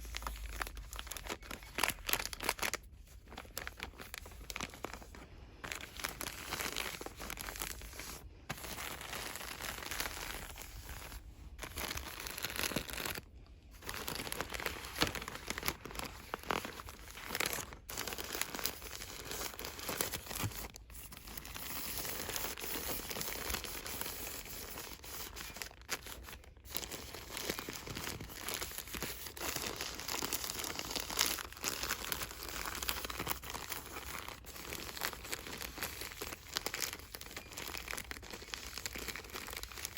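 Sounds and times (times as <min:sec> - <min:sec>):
packaging crinkling and rustling: 0:00.0 - 0:39.9.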